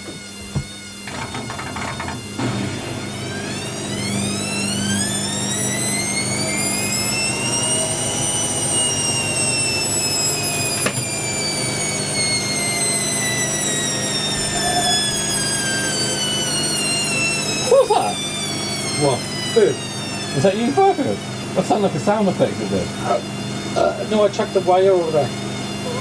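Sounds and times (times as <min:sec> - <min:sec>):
washing machine drum motor whining: 0:00.0 - 0:26.0.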